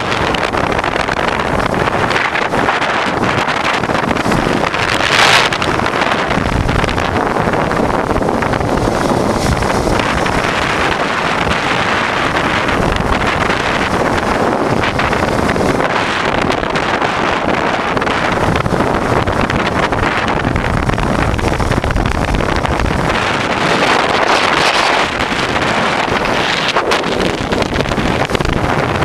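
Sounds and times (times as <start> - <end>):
wind rushing over microphone: 0.0 - 29.0.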